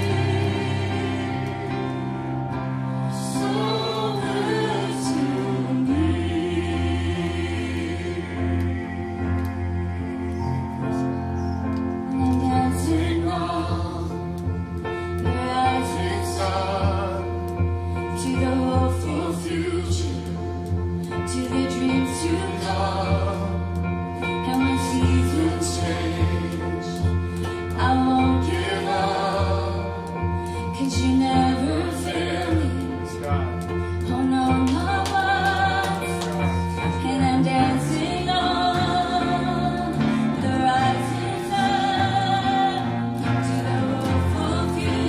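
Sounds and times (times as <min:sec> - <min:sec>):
sustained keyboard chords: 0:00.0 - 0:45.0
voices singing a melody: 0:00.0 - 0:45.0.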